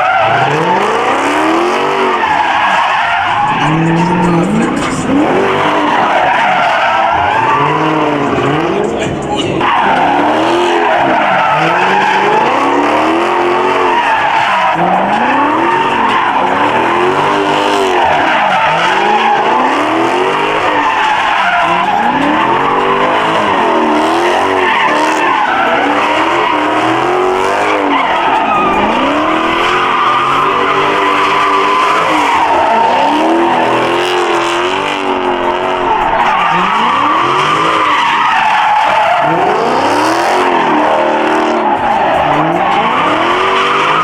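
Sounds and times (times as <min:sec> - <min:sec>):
car engine revving: 0:00.0 - 0:44.0
tires squealing: 0:00.0 - 0:44.0.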